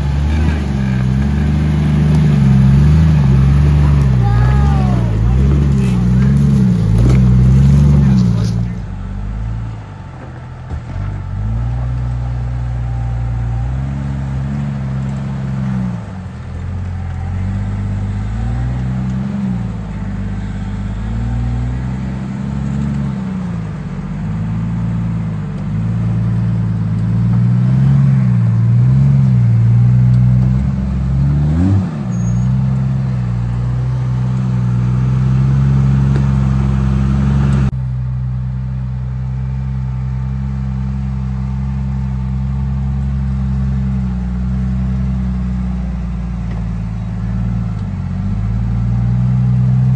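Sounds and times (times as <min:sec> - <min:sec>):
car engine at low revs: 0:00.0 - 0:49.9.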